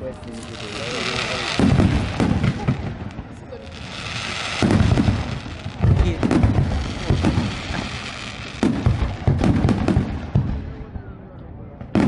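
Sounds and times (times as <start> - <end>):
fireworks bursting: 0.0 - 10.9.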